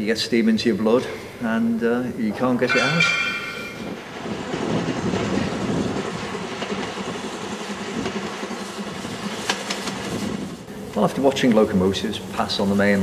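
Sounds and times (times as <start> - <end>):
steam train rumbling past: 0.0 - 13.0.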